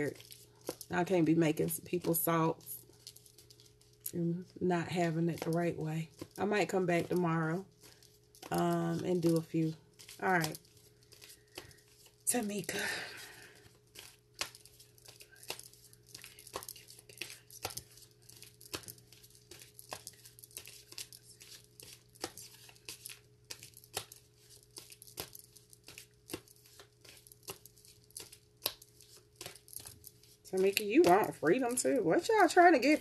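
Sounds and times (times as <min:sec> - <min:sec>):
cards being shuffled: 0:00.0 - 0:04.1, 0:05.0 - 0:33.0
faint steady hum: 0:00.0 - 0:33.0.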